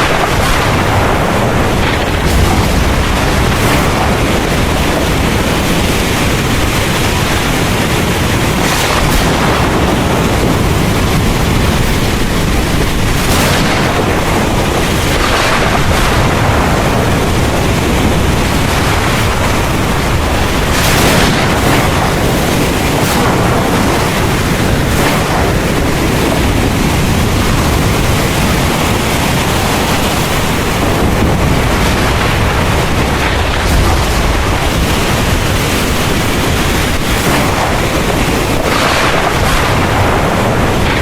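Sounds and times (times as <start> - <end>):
heavy rain pouring: 0.0 - 41.0
thunder rumbling: 0.0 - 41.0.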